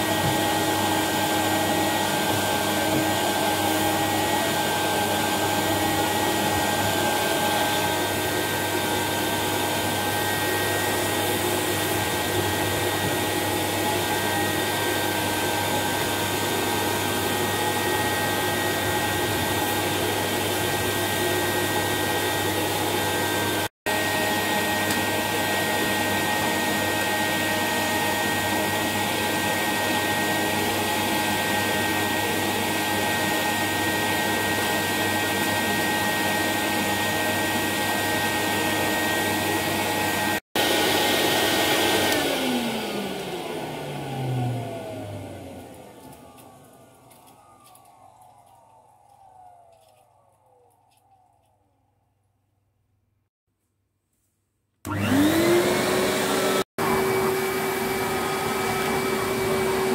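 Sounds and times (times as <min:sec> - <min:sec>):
vacuum cleaner motor whine: 0:00.0 - 0:51.5, 0:54.9 - 0:59.9.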